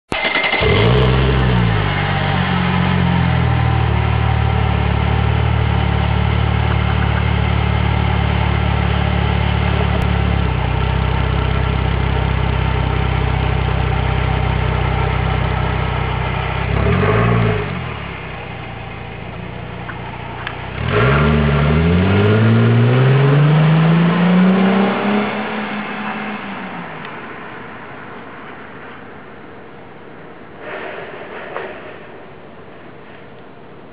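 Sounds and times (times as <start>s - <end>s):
car engine revving: 0.2s - 28.3s.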